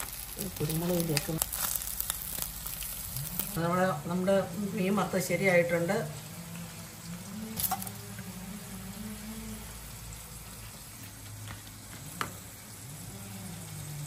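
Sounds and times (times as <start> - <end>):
fish sizzling in a pan: 0.0 - 14.0.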